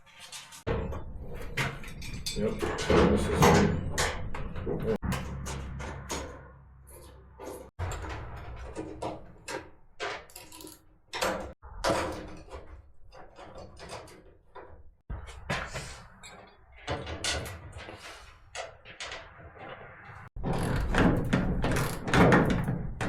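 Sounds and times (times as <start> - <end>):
metal toolbox knocks and clunks: 0.7 - 6.4, 7.0 - 23.0.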